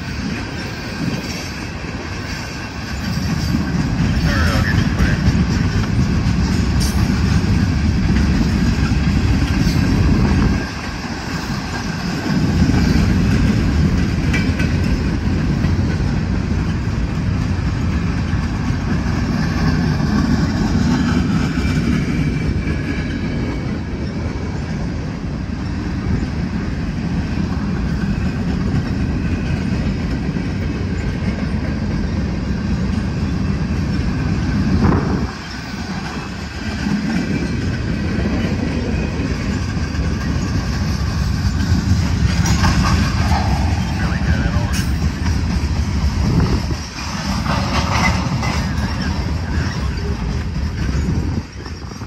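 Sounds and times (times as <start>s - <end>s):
freight train wheels rumbling on rails: 0.0s - 52.0s.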